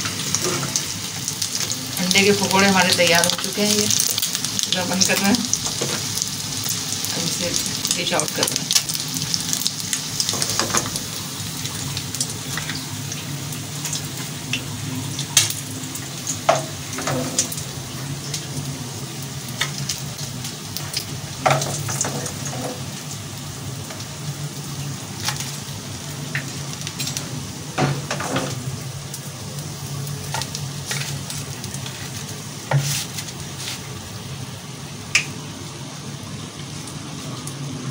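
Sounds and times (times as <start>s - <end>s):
hot oil sizzling: 0.0s - 37.9s.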